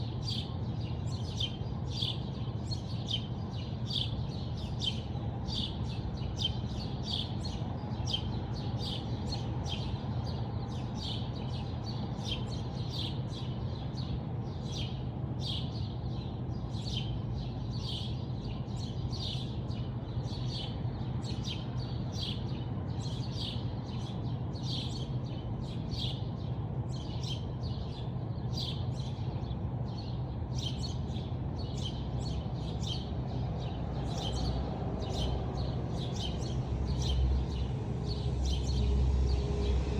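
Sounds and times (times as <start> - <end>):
small birds chirping: 0.1 - 39.4.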